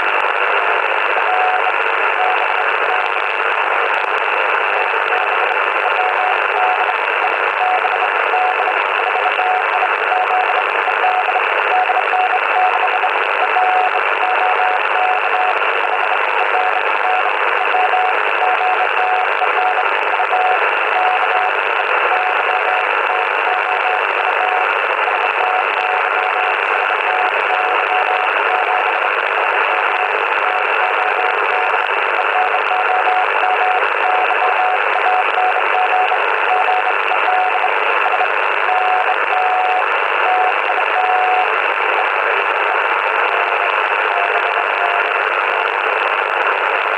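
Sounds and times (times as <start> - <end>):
receiver hiss: 0.0 - 46.9
morse code tone: 1.2 - 3.3, 4.8 - 45.3.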